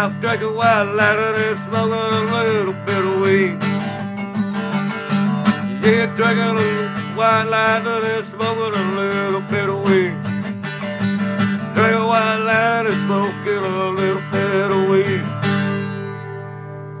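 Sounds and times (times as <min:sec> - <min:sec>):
bending melody line: 0:00.0 - 0:17.0
strummed acoustic guitar: 0:00.0 - 0:17.0.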